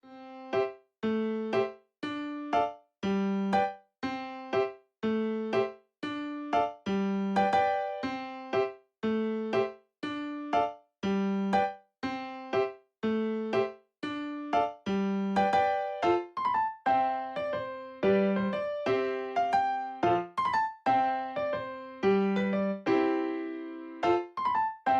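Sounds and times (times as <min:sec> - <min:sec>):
bouncy keyboard music: 0:01.0 - 0:24.9.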